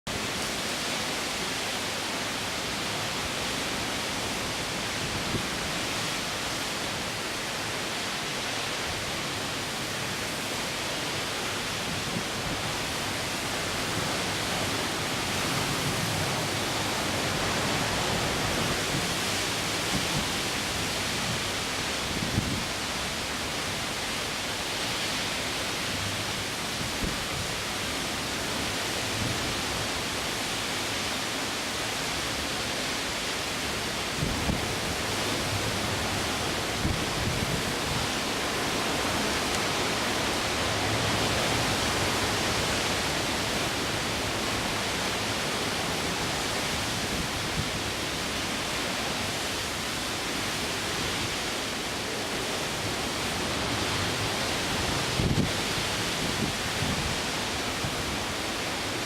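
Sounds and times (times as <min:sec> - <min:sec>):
wind and rain rushing: 0:00.1 - 0:59.0
wind gusts thumping microphone: 0:10.1 - 0:31.0, 0:31.6 - 0:59.0.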